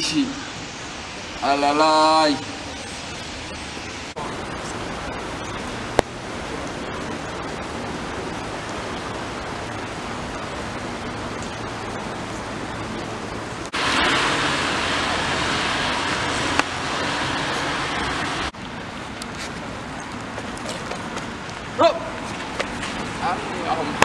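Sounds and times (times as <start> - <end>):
street ambience hiss: 0.0 - 24.0.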